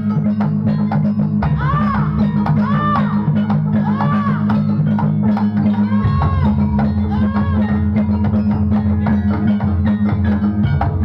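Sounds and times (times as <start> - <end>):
drums and struck percussion: 0.0 - 11.0.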